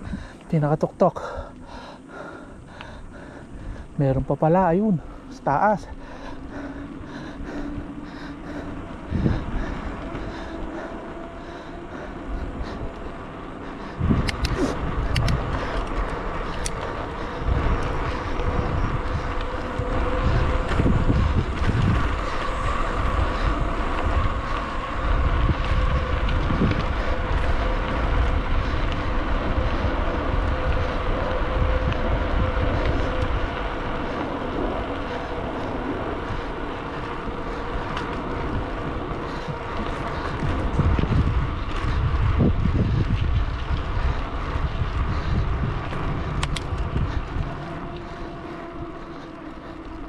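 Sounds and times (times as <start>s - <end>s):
bicycle tyres rolling on concrete: 0.0s - 50.0s
wind buffeting microphone: 0.0s - 50.0s.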